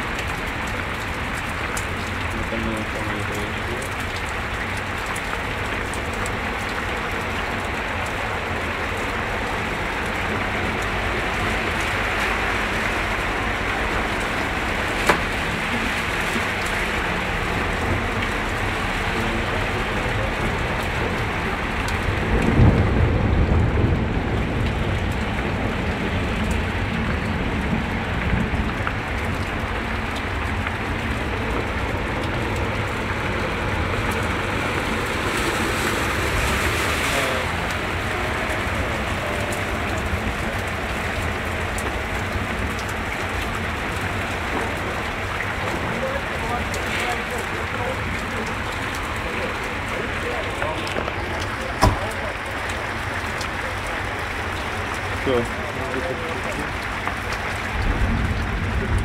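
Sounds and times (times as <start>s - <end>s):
cars driving through deep water: 0.0s - 59.0s
heavy rain hissing: 0.0s - 59.0s
rushing floodwater: 0.0s - 59.0s.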